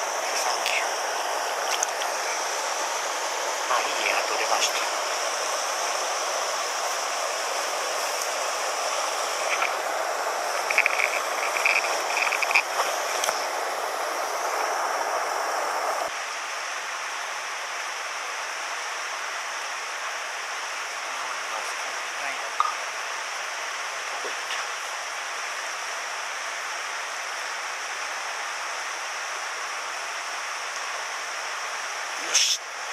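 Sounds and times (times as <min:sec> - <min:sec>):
stream rushing over rocks: 0:00.0 - 0:32.9.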